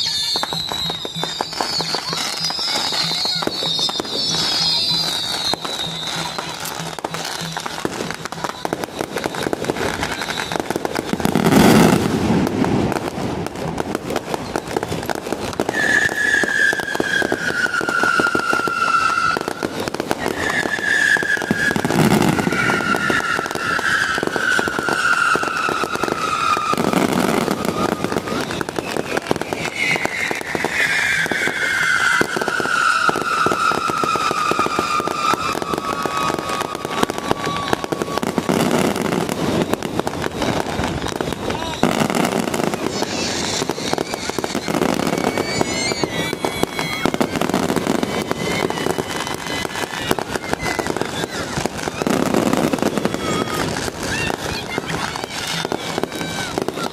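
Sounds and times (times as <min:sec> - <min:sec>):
high whistling tones sliding downward: 0:00.0 - 0:12.0, 0:14.2 - 0:54.5
firecrackers crackling: 0:00.0 - 0:56.9.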